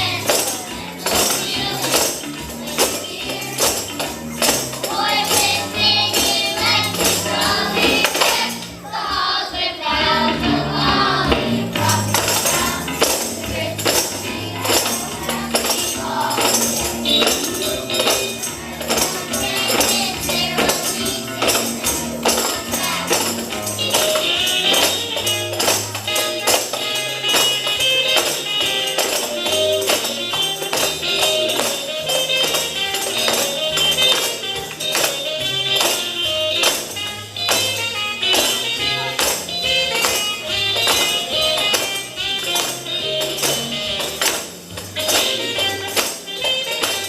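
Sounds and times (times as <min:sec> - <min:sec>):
tambourines shaken: 0:00.0 - 0:47.0
upbeat instrumental music: 0:00.0 - 0:47.0.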